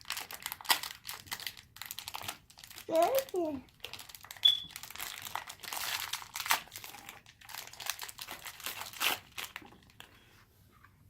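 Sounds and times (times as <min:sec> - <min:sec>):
wrapping crackling and rustling: 0:00.0 - 0:10.9.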